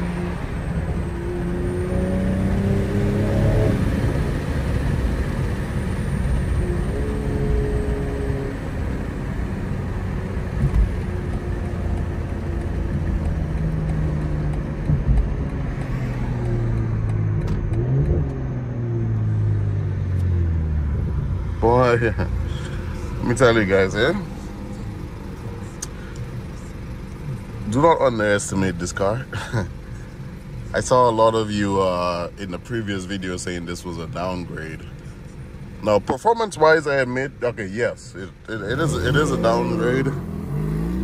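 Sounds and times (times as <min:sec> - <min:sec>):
car engine accelerating: 0:00.0 - 0:41.0
tyre and road noise: 0:00.0 - 0:41.0.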